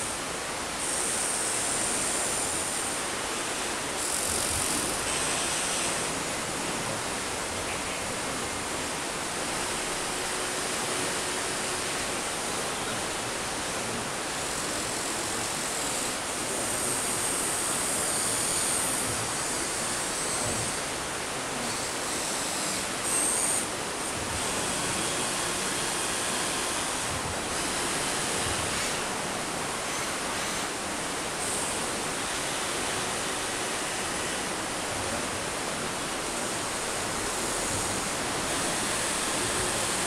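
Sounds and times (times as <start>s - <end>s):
electric motor whine: 0.0s - 40.0s.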